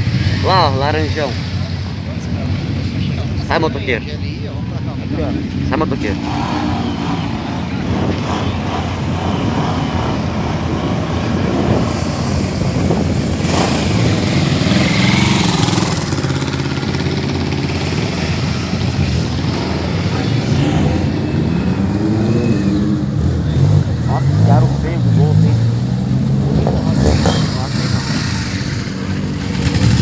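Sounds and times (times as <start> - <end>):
vehicle engines passing: 0.0 - 30.0.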